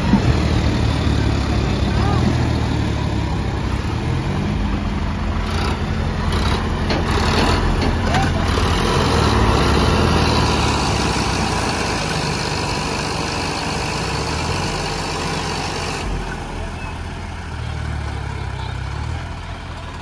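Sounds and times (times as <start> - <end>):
diesel tractor engines running: 0.0 - 20.0.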